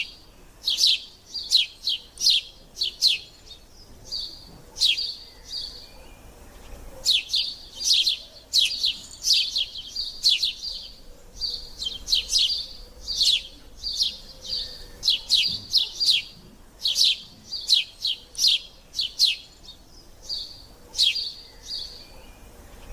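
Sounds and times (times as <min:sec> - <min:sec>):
sparrows chirping: 0:00.0 - 0:22.9.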